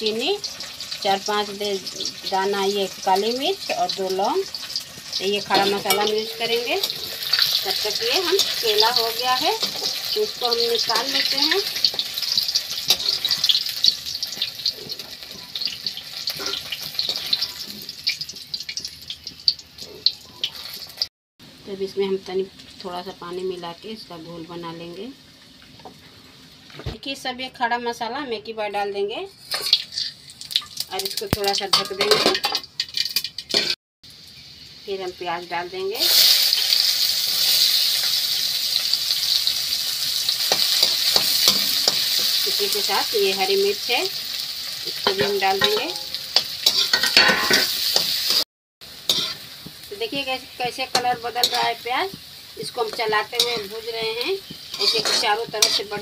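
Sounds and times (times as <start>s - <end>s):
frying in hot oil: 0.0s - 56.0s.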